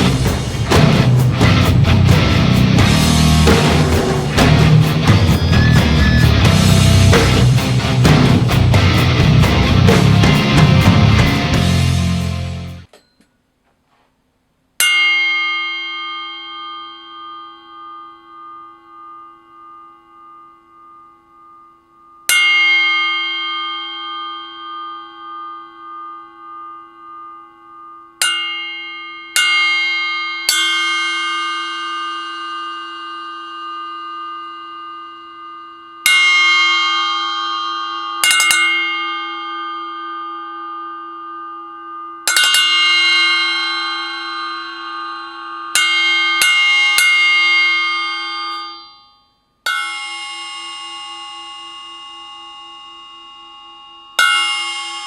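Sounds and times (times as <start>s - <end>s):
bell cymbal struck and ringing: 0.0s - 13.2s, 14.8s - 55.0s.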